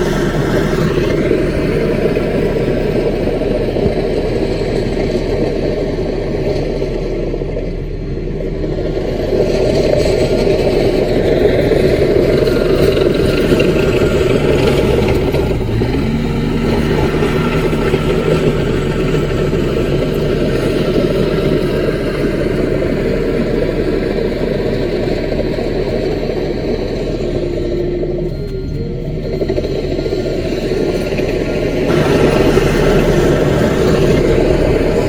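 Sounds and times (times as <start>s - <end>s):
bulldozer diesel engine running: 0.0s - 35.0s
faint steady tones: 0.0s - 35.0s.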